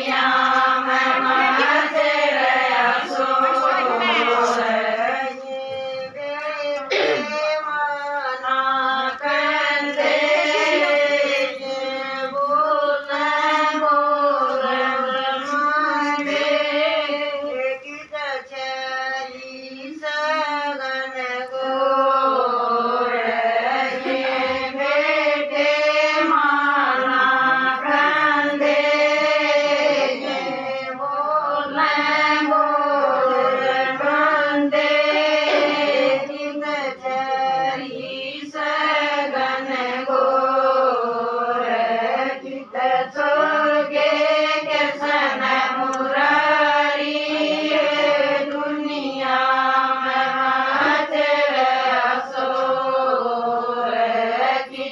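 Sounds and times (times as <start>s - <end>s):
women singing devotional song: 0.0s - 54.9s.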